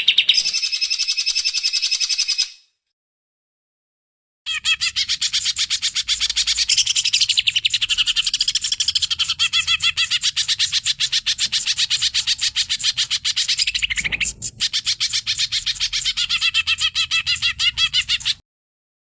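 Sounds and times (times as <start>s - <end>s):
bird chirping rapidly: 0.0s - 2.6s, 4.5s - 18.4s.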